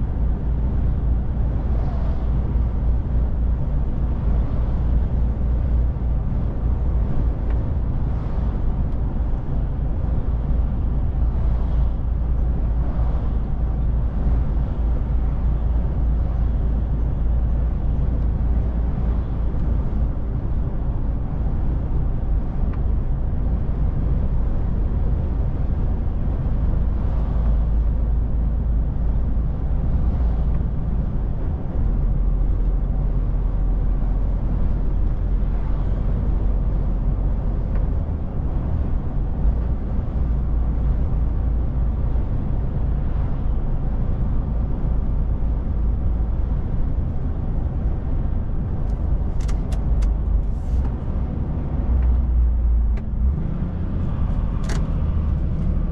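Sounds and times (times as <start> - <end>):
truck engine and road drone: 0.0 - 55.9.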